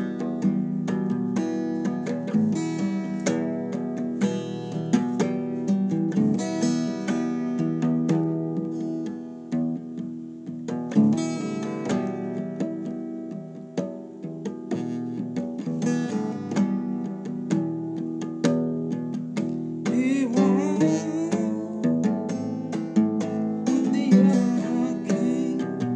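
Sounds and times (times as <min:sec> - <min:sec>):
acoustic guitar strumming: 0:00.0 - 0:25.9.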